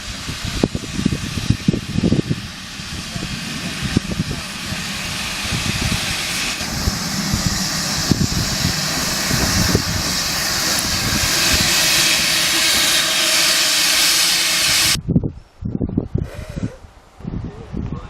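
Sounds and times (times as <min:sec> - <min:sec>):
steam locomotive hissing: 0:00.0 - 0:15.0
gusty low rumbles: 0:00.0 - 0:18.0.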